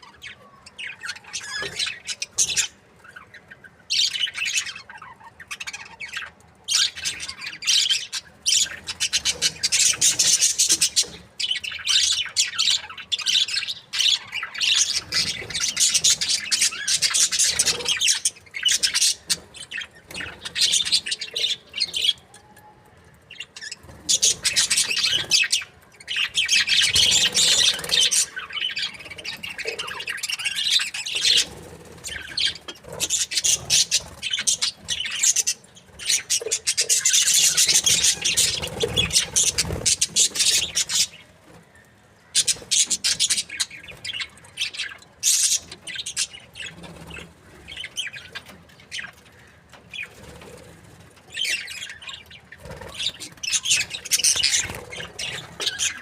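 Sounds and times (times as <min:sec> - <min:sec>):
budgerigars chirping: 0:00.0 - 0:22.2, 0:23.6 - 0:41.2, 0:42.3 - 0:50.1, 0:51.4 - 0:56.0.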